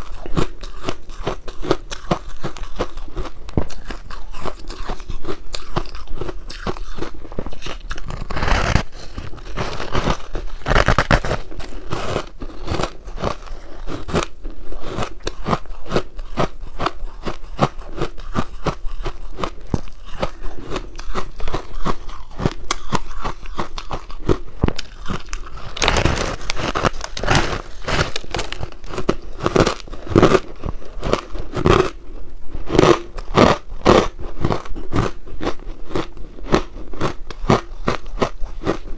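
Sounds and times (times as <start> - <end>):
crunching frozen ice cake: 0.0 - 38.9.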